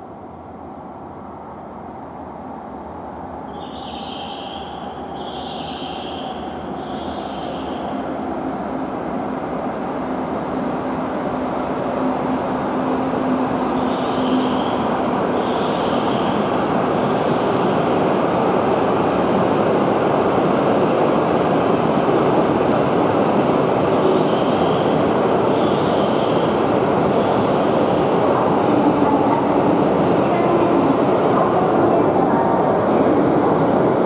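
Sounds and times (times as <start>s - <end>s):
train rushing past: 3.5s - 34.0s.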